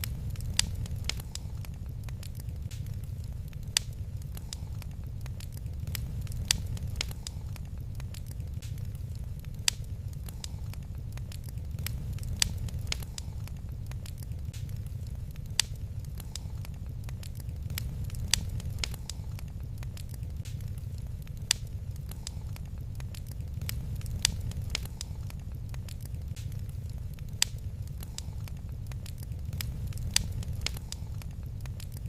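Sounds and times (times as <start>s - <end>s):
low rumble of fire: 0.0s - 32.0s
wood fire crackling: 0.0s - 32.0s.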